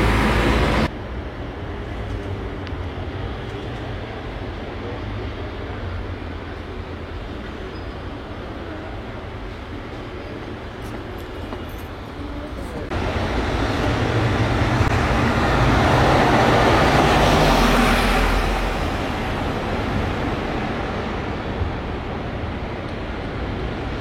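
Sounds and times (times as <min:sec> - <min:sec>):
tram running on rails: 0:00.0 - 0:24.0.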